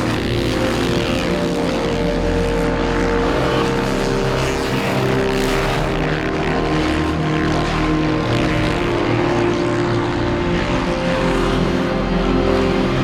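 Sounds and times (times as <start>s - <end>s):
drone propellers humming: 0.0s - 13.0s.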